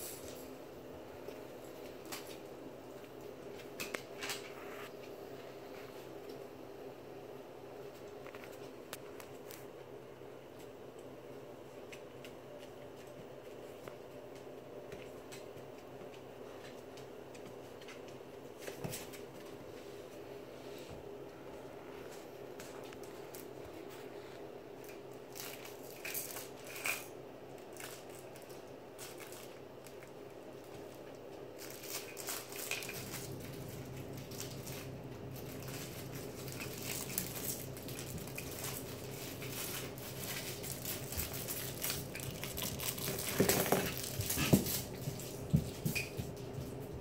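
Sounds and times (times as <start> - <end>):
steady low hum: 0.0 - 47.0
puppies moving clicks and rustles: 1.2 - 6.4, 10.5 - 20.2, 22.0 - 47.0.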